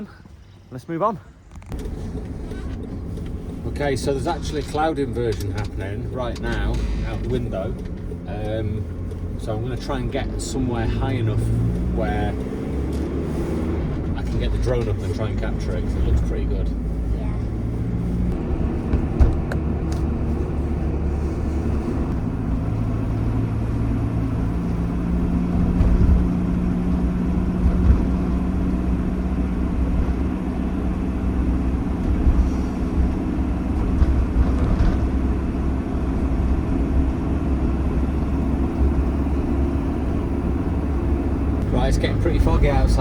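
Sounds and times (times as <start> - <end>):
campervan engine: 0.0 - 43.0
road noise while driving: 0.0 - 43.0.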